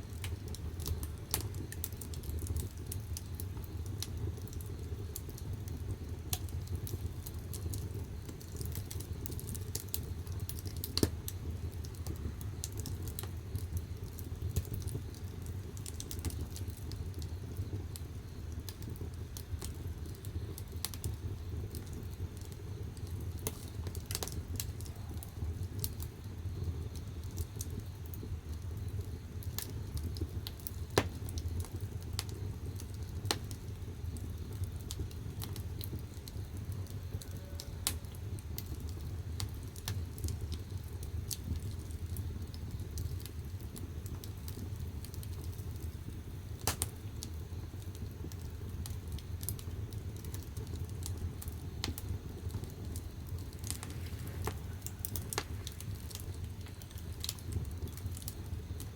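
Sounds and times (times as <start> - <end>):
firewood crackling and popping: 0.0 - 58.9
low rumble of flame: 0.0 - 58.9.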